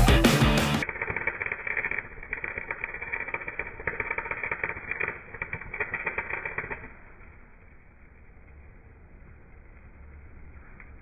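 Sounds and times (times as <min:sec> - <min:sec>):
slowed welding crackle: 0:00.0 - 0:11.0.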